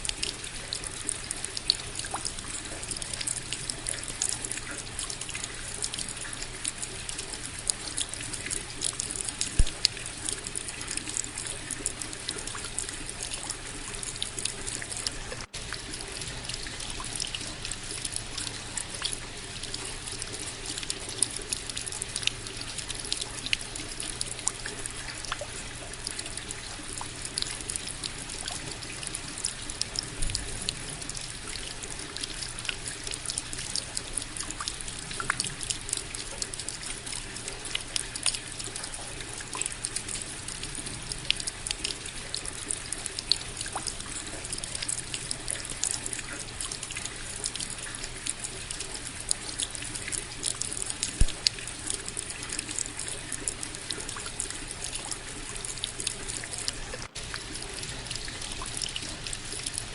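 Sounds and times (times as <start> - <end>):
raindrops hitting close by: 0.0 - 59.9.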